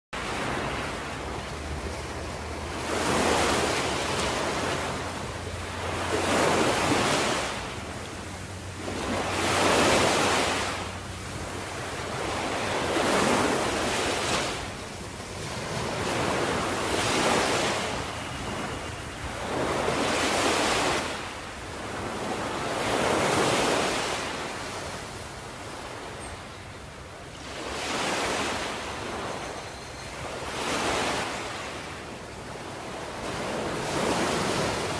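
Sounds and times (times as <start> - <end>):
ocean waves breaking: 0.2 - 34.9.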